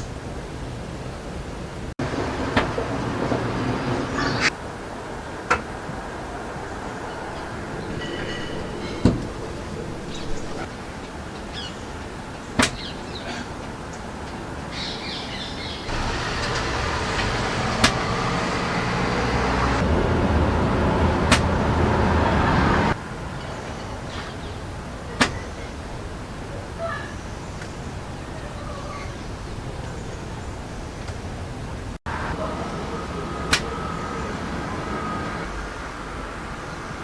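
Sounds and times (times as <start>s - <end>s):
outdoor rumble: 0.0s - 37.0s.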